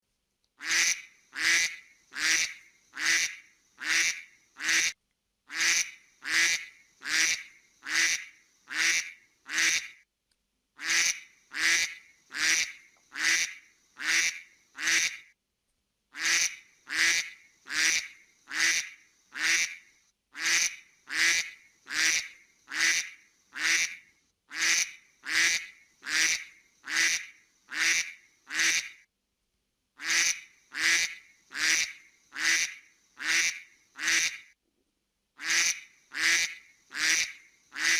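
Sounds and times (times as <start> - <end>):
duck quacking: 0.6 - 9.9, 10.8 - 15.2, 16.2 - 19.8, 20.4 - 28.9, 30.0 - 34.4, 35.4 - 37.9.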